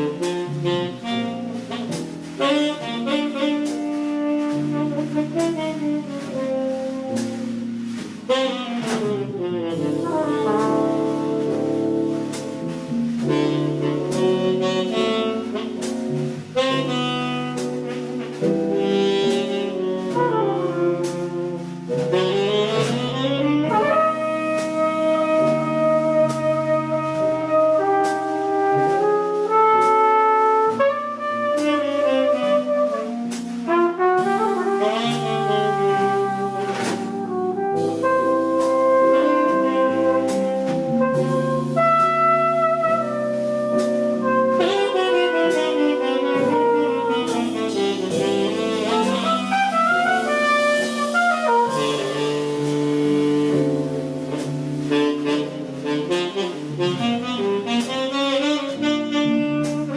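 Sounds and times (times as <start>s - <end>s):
jazz ballad: 0.0s - 59.9s
saxophone melody: 0.0s - 59.9s
walking bass line: 0.0s - 59.9s.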